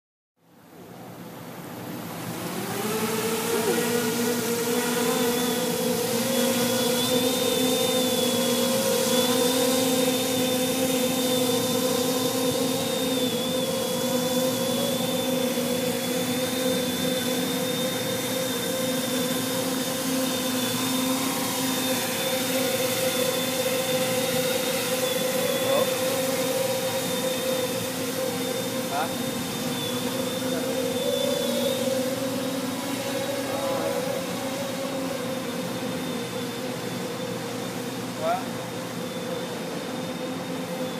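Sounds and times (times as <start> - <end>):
drone motors buzzing hum: 1.4 - 40.9.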